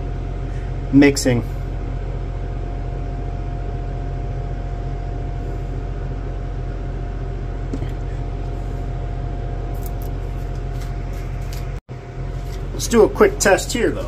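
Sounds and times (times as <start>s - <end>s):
deep mechanical hum: 0.0s - 14.0s.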